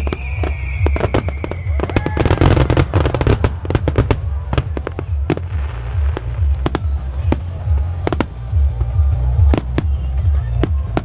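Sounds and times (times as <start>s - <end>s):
deep rumble: 0.0s - 11.0s
fireworks bursts and bangs: 0.0s - 11.0s.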